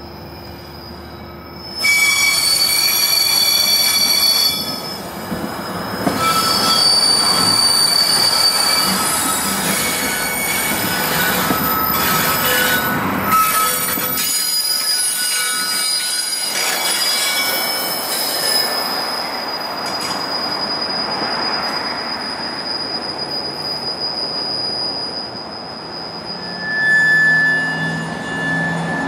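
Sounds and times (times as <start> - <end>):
train wheels squealing on rail: 0.0 - 29.0
train rumble: 1.8 - 26.5.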